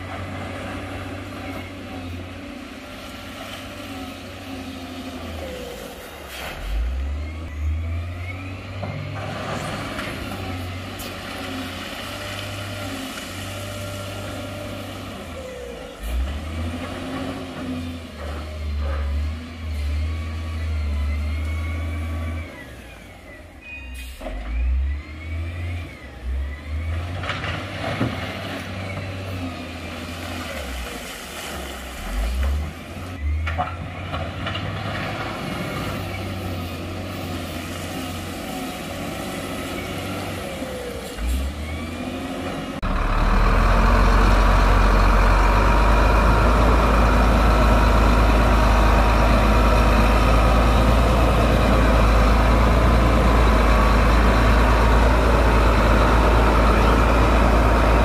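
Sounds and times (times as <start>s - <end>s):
heavy diesel engines revving: 0.0s - 58.0s.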